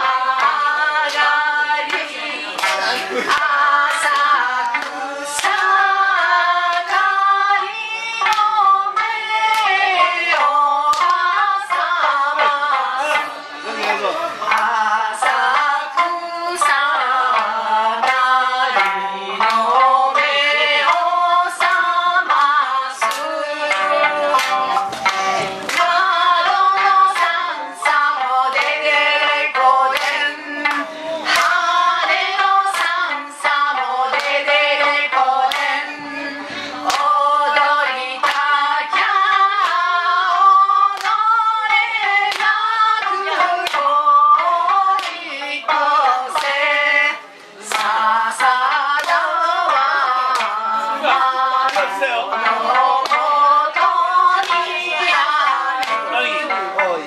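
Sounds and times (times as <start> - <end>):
plucked stringed instruments: 0.0 - 57.0
rhythmic clicks or claps: 0.0 - 57.0
women singing: 0.0 - 57.0.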